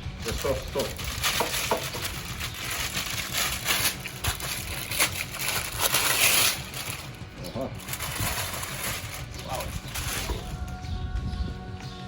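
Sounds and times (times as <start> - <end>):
packaging rustling and crinkling: 0.0 - 10.8.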